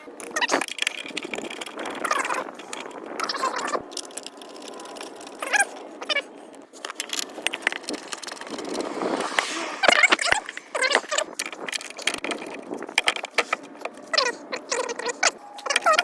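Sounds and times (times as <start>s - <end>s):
metallic rattles of tools: 0.2s - 9.0s, 10.0s - 16.0s.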